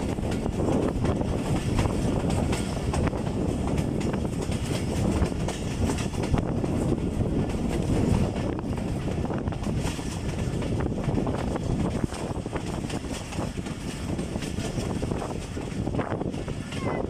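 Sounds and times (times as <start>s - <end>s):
train rumbling and rattling: 0.0s - 17.0s
wheels clicking on track: 0.0s - 17.0s.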